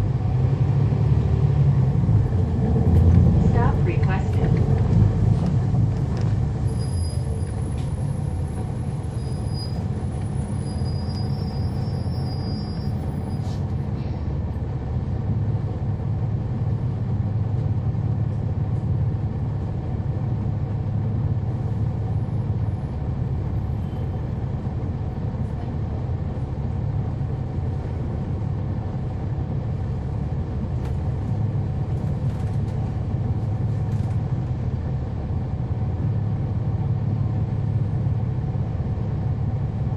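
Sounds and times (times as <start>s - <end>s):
bus engine rumble from inside: 0.0s - 39.9s.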